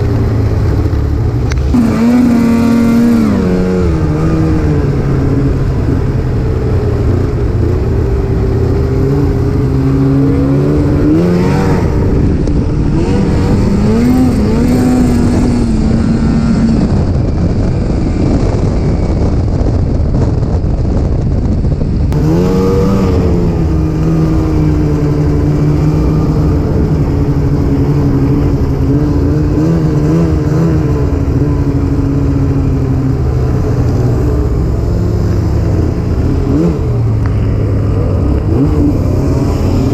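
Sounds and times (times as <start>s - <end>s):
snowmobile engine revving: 0.0s - 19.3s, 22.1s - 39.9s
constant rushing noise: 0.0s - 39.9s.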